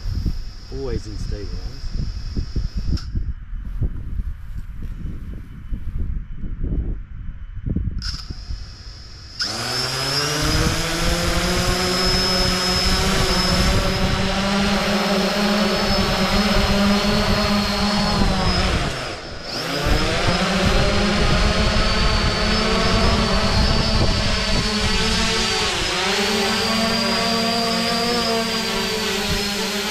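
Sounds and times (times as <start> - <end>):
quadcopter motors humming and whining: 0.0 - 29.9.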